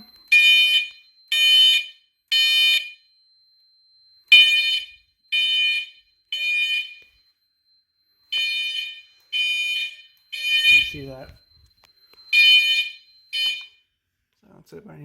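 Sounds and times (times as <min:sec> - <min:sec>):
fire alarm horn beeps: 0:00.0 - 0:03.2, 0:04.2 - 0:07.4, 0:08.2 - 0:13.9.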